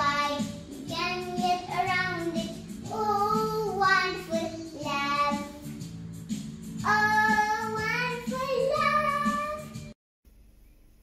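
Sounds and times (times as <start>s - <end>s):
girl singing: 0.0s - 5.8s, 6.8s - 10.0s
backing track with light beat: 0.0s - 10.0s.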